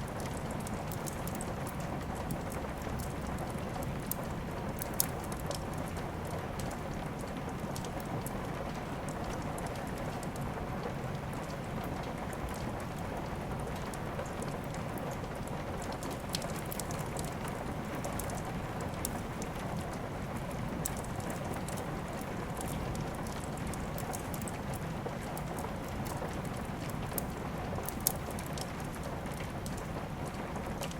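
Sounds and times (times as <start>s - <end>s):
wood fire crackling: 0.0s - 10.4s, 11.4s - 30.9s
steady rain: 0.0s - 30.9s.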